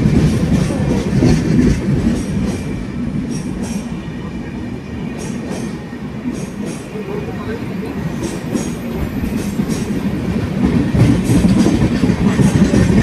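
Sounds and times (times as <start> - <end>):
wheels clacking on rail joints: 0.0 - 7.0, 8.1 - 13.0
train wheels rumbling on rails: 0.0 - 13.0.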